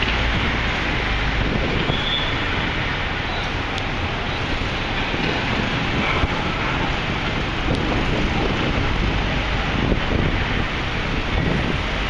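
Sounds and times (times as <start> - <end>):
street traffic rumble: 0.0 - 12.0
wind buffeting microphone: 0.0 - 12.0.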